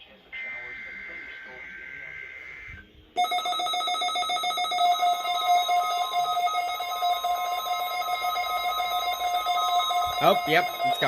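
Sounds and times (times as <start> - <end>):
electronic alarm tone with buzzing flutter: 0.4 - 11.0.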